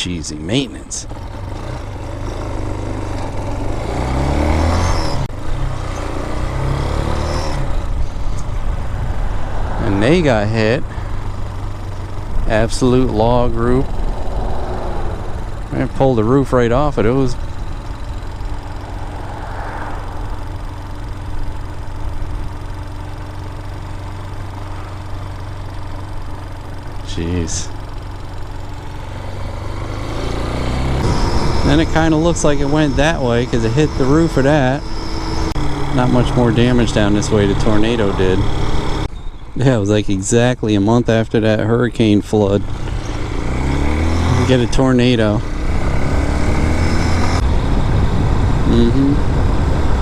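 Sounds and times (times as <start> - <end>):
dirt bike engine pulling away: 0.0 - 50.0.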